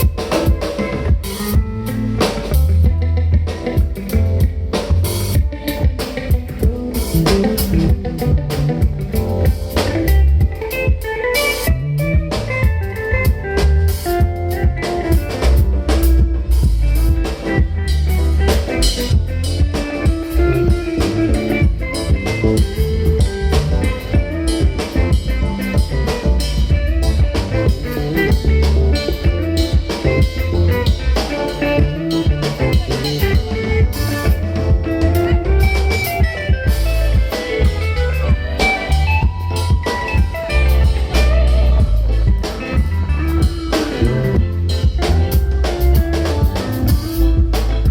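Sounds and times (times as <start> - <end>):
live band over pa system: 0.0 - 47.9.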